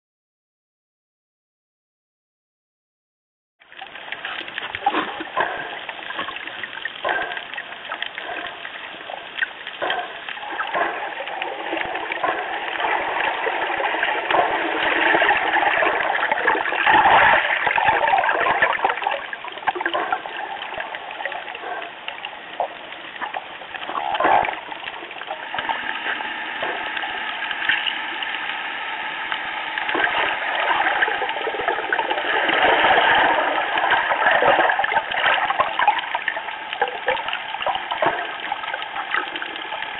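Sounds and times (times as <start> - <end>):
underwater water rushing: 3.7 - 39.9.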